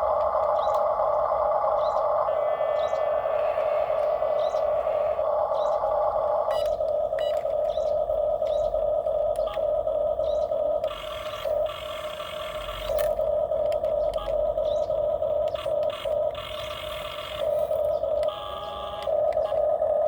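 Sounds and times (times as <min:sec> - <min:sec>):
toy electric motors whining: 0:00.0 - 0:20.0.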